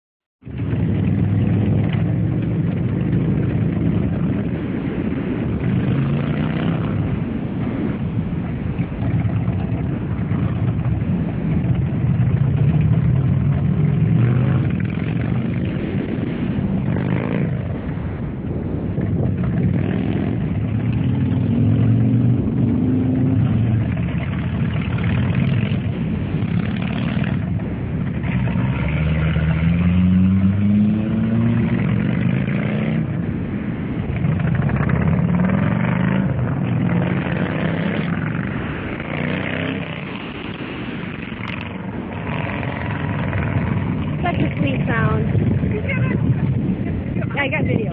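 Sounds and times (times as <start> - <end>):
motorcycle engine revving: 0.4 - 47.9
motorcycle engines running: 0.4 - 47.9.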